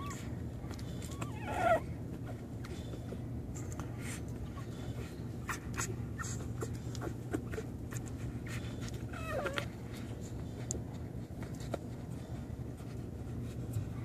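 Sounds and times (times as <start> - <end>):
puppies suckling: 0.0 - 14.0.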